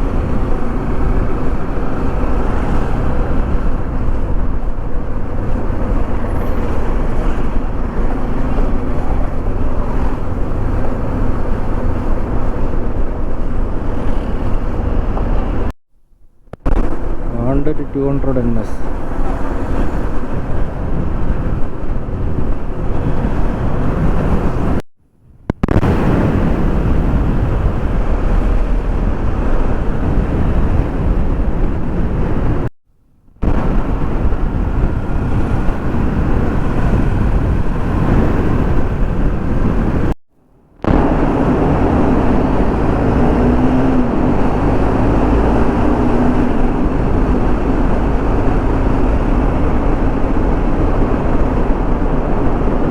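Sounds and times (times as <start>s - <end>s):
traffic noise: 0.0s - 15.7s, 16.3s - 24.8s, 25.5s - 32.7s, 33.3s - 52.9s
wind rushing over microphone: 0.0s - 15.8s, 16.5s - 32.7s, 33.3s - 52.9s.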